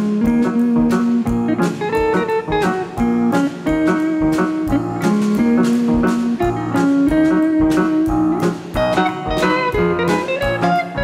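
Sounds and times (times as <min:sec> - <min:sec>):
drum kit beat: 0:00.0 - 0:11.0
electric guitar melody: 0:00.0 - 0:11.0.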